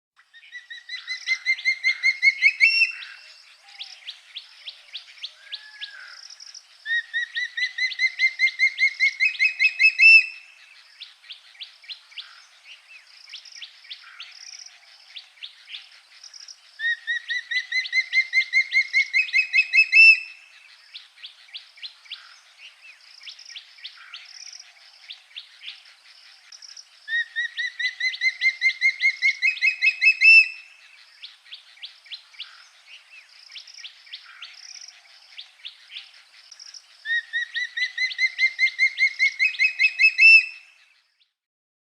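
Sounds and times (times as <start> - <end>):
songbird singing rising notes: 0.2 - 41.4.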